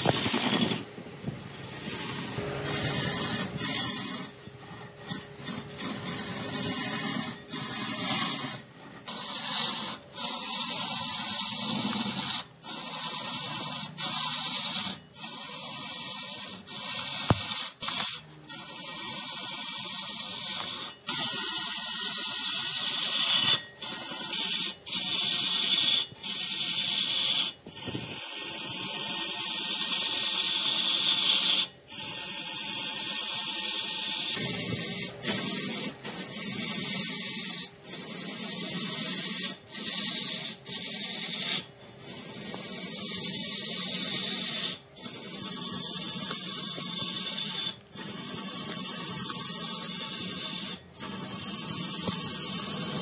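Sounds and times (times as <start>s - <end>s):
lathe tool scraping spinning wood: 0.0s - 53.0s.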